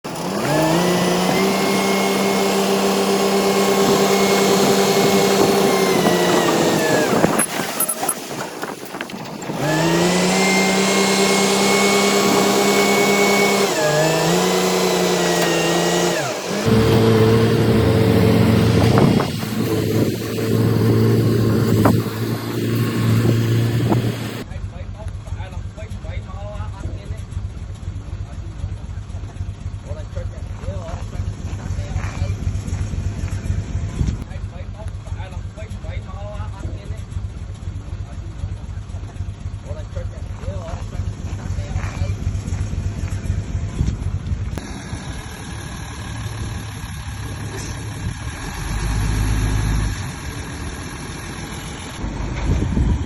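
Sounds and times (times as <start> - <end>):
bulldozer diesel engine revving: 0.0 - 8.1, 9.4 - 24.5, 30.6 - 34.3, 37.1 - 53.0.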